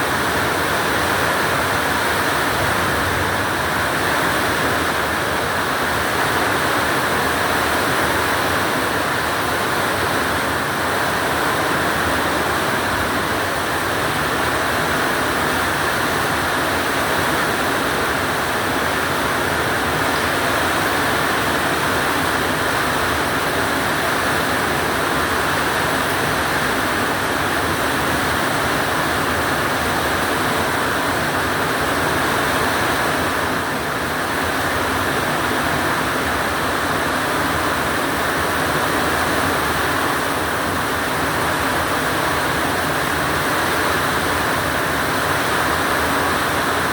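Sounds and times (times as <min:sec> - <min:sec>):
very heavy rain pouring: 0:00.0 - 0:46.9.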